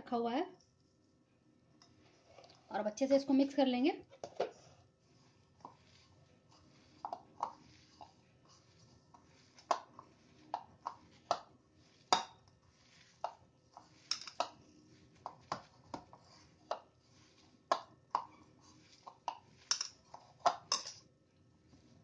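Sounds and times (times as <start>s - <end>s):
hand mixing paste in a bowl: 0.9s - 22.0s.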